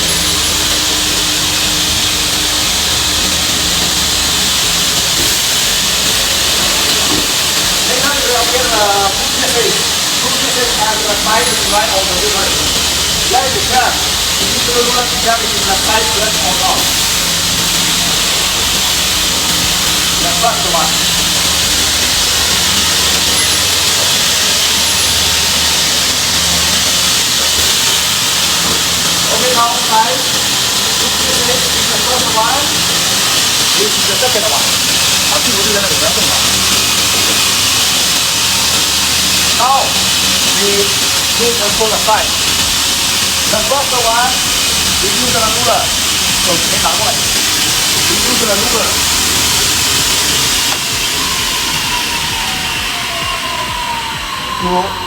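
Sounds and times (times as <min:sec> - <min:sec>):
hissing machine noise: 0:00.0 - 0:55.0
low hum: 0:00.0 - 0:55.0
saw blade whirring: 0:00.0 - 0:55.0.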